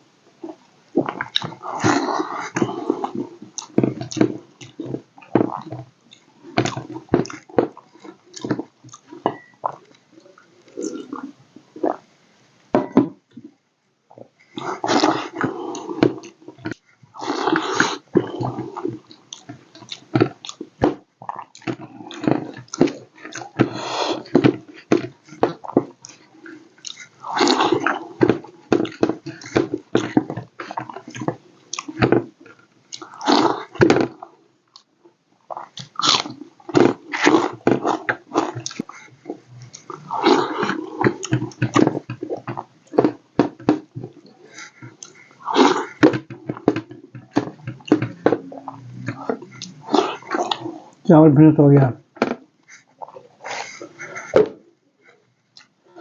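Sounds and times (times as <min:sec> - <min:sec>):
chewing and lip smacking: 0:00.4 - 0:12.0, 0:14.5 - 0:34.9, 0:35.5 - 0:51.0.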